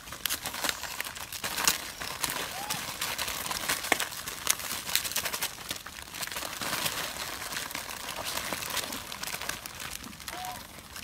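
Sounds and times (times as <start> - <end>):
plastic wrappers crinkling: 0.0 - 11.0.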